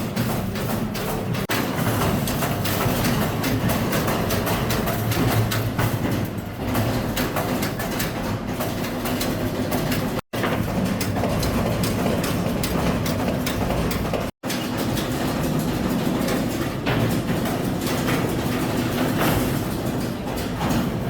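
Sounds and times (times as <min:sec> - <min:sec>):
mechanical running hum: 0:00.0 - 0:21.0.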